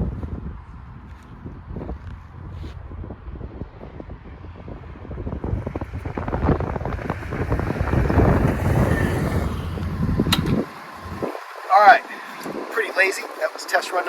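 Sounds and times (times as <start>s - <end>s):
wind buffeting microphone: 0.0s - 14.0s
engine accelerating hard: 0.1s - 14.0s.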